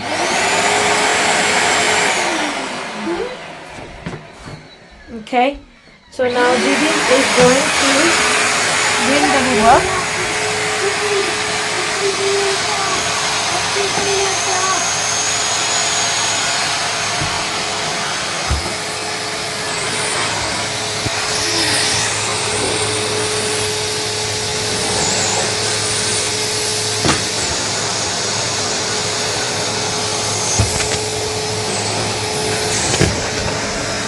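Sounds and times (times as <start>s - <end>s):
vacuum cleaner humming: 0.0s - 34.0s.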